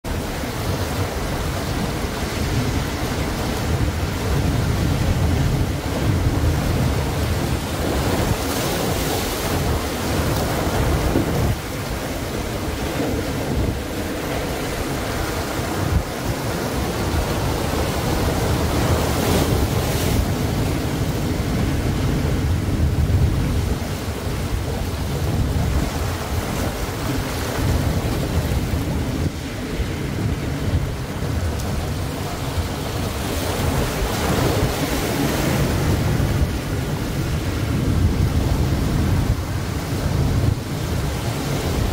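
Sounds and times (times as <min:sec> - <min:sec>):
surf breaking on a beach: 0:00.0 - 0:41.9
wind buffeting the microphone: 0:00.0 - 0:41.9.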